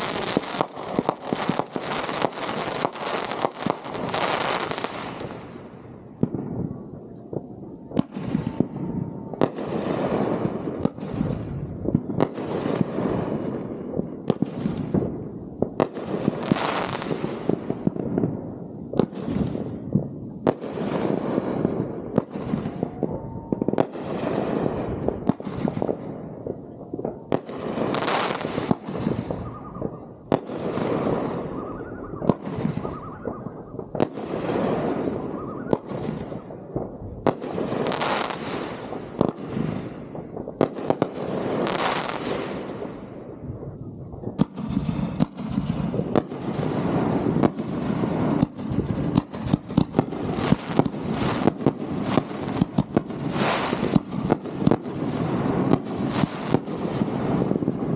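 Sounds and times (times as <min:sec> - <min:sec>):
fireworks bangs: 0:00.0 - 0:57.9
fireworks crackle: 0:00.0 - 0:57.9.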